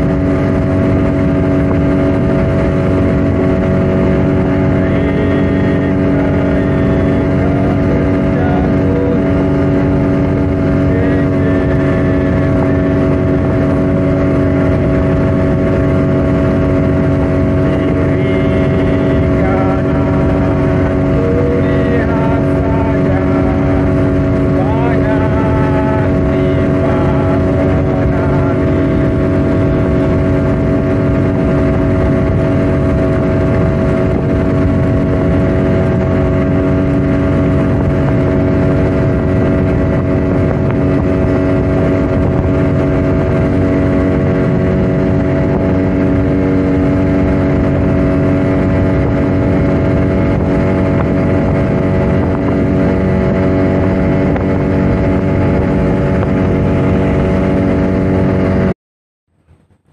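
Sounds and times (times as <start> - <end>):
speedboat engine running: 0.0 - 59.9.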